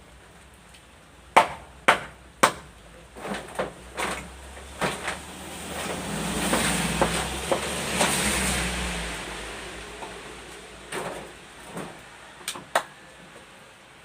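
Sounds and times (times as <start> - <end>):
steady noise with low hum: 0.0 - 14.0.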